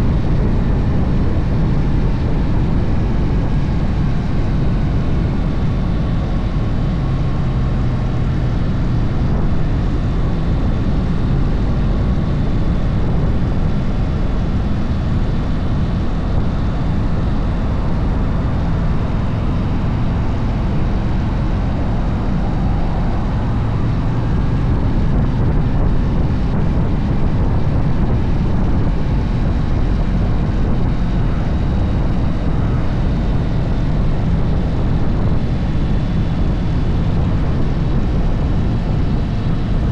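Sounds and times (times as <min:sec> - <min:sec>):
motorcycle engine rumble: 0:00.0 - 0:39.9
wind rush over microphone: 0:00.0 - 0:39.9.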